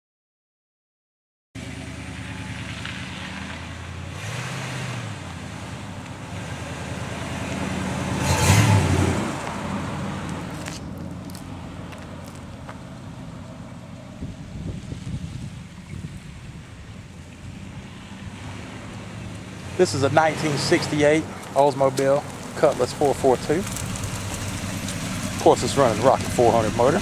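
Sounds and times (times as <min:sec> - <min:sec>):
engine running through exhaust: 0:01.6 - 0:27.0.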